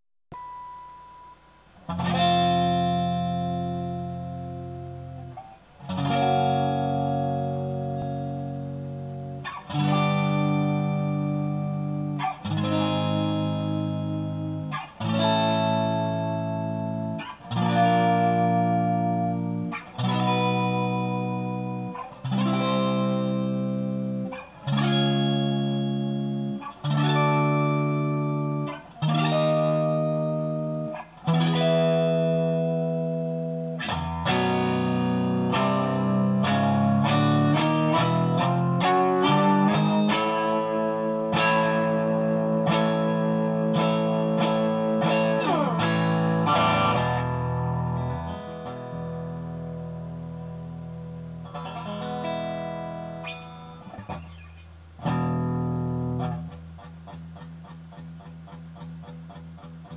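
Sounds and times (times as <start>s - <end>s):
plucked effected guitar: 0.3s - 59.9s.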